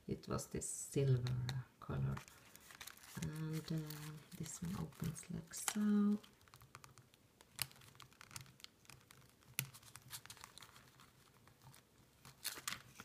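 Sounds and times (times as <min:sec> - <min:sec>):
paper rustling: 0:02.1 - 0:13.0.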